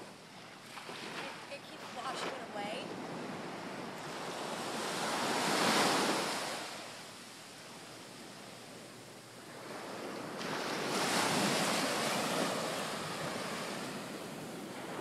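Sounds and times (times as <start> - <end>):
small waves washing on beach: 0.0 - 15.0.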